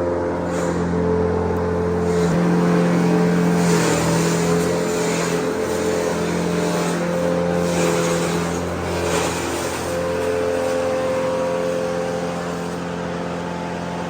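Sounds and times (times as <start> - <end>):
farm machine motor hum: 0.0 - 14.0.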